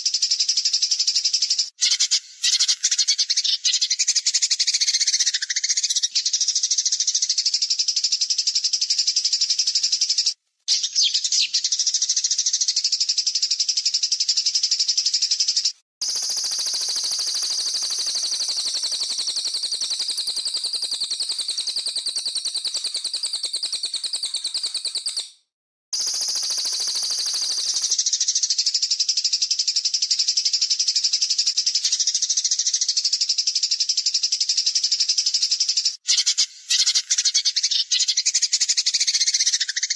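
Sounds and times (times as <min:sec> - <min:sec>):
harsh rapid bird chattering: 0:00.0 - 0:25.3, 0:26.0 - 0:39.9.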